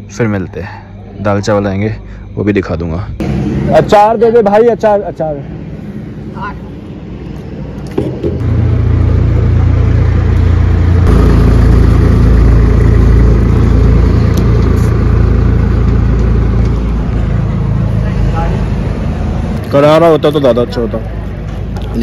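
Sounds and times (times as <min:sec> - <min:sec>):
engine running low rumble: 0:03.1 - 0:22.0.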